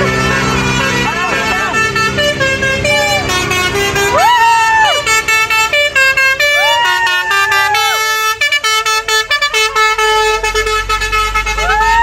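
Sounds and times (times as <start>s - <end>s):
multi-tone horn melody: 0.0s - 12.0s
truck engine rumble: 0.0s - 12.0s.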